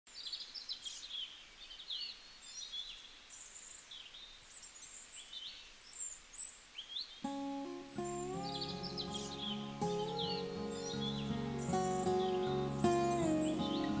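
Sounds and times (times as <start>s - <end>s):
faint outdoor hiss: 0.1s - 14.0s
small birds chirping and singing: 0.1s - 14.0s.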